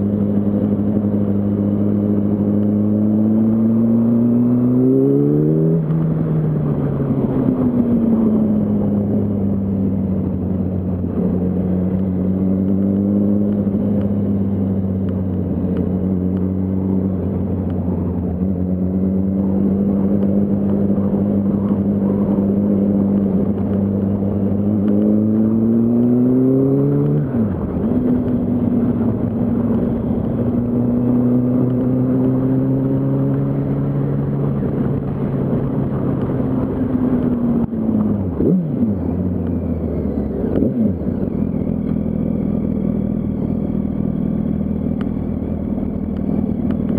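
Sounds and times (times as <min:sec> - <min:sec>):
motorcycle engine running: 0:05.8 - 0:46.9.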